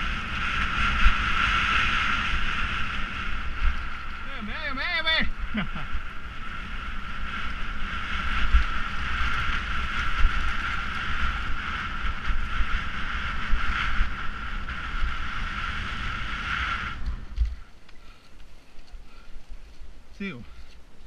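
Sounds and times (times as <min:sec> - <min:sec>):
high hiss from moving bike: 0:00.0 - 0:18.3
wind buffeting microphone: 0:00.0 - 0:21.0.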